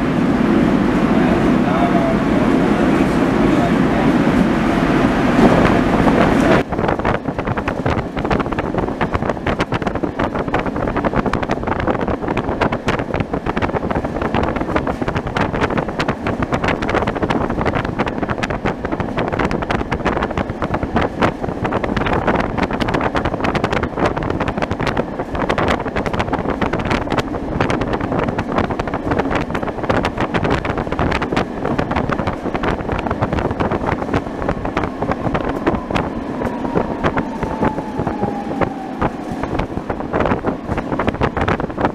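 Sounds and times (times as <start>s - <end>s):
tram wheels rumbling on rails: 0.0s - 41.9s
wind on microphone: 0.0s - 41.9s.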